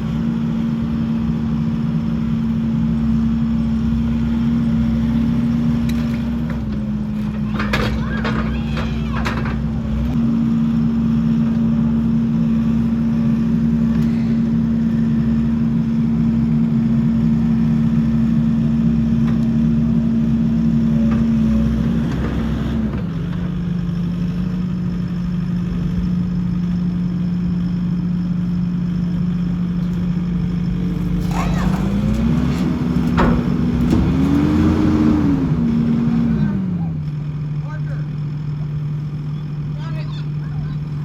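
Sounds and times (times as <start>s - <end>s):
skid steer engine running: 0.0s - 41.0s.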